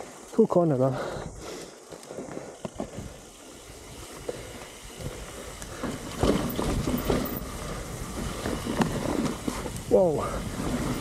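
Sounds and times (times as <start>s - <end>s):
bike tyres on dirt trail: 0.0s - 11.0s
bike clicks and rattles: 1.1s - 11.0s.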